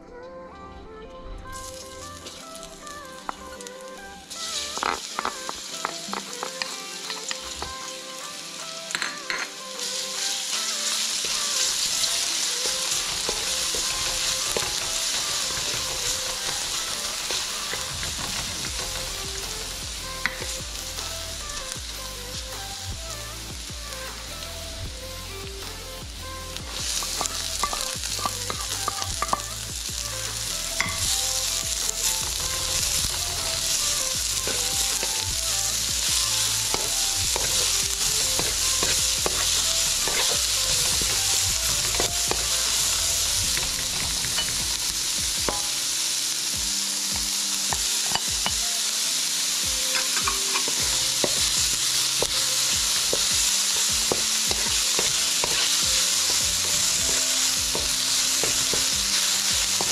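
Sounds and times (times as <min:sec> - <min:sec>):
onion and garlic sizzling in oil: 0:01.6 - 0:59.9.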